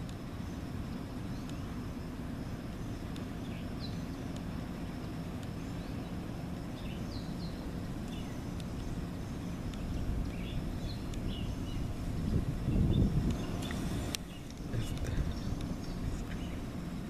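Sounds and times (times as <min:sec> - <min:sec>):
low outdoor rumble: 0:00.0 - 0:17.0
faint bird chirps: 0:00.3 - 0:16.8.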